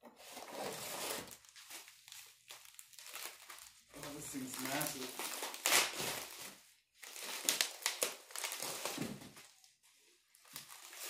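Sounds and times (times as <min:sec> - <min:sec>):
bubble wrap crinkling: 0:00.2 - 0:11.0.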